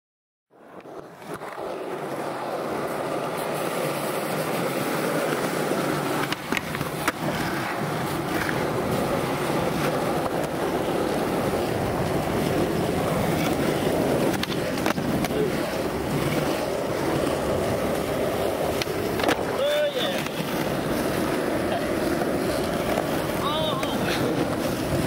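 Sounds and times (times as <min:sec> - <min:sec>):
skateboard wheels rolling on asphalt: 0:00.5 - 0:25.0
skateboard clicks: 0:00.7 - 0:25.0.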